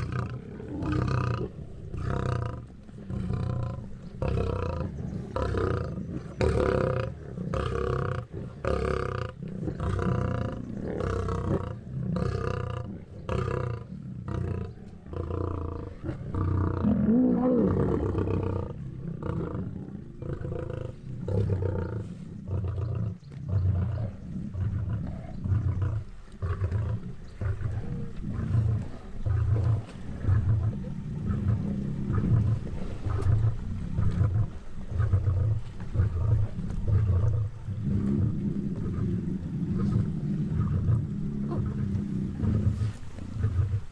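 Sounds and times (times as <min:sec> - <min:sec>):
lions growling: 0:00.0 - 0:43.9.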